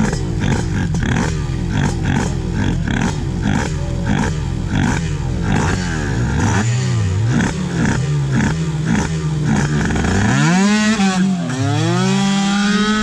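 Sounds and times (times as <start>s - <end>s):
motorcycle engine revving and accelerating: 0.0s - 13.0s.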